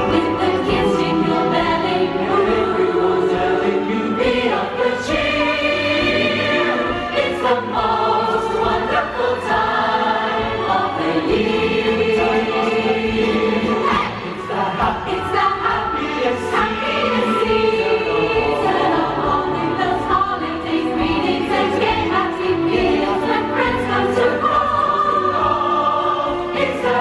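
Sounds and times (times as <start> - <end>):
large choir singing: 0.0 - 27.0.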